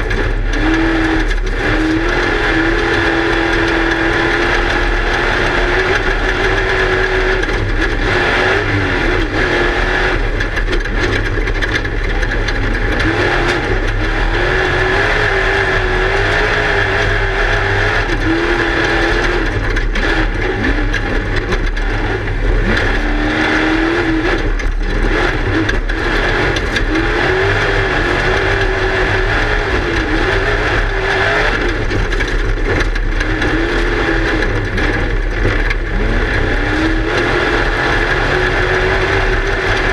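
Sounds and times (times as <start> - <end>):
car rattling over rough ground: 0.0 - 39.9
race car engine revving: 0.0 - 39.9.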